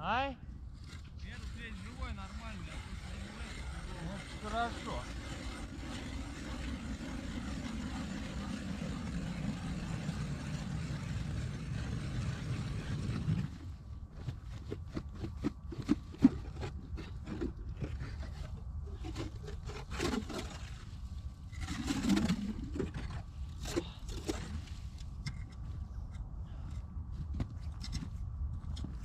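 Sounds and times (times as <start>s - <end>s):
ice auger grinding: 0.8s - 21.0s, 21.6s - 24.8s
scrapes and knocks at ice hole: 0.8s - 25.7s.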